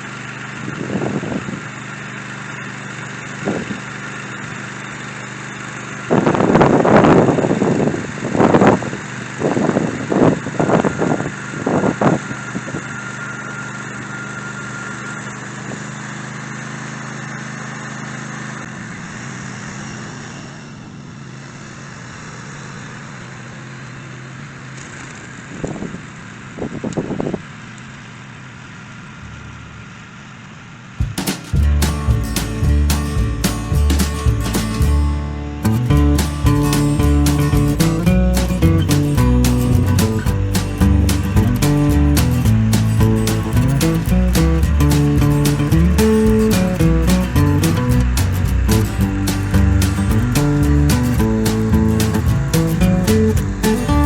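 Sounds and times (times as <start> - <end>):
small cultivator engine running: 0.0 - 54.0.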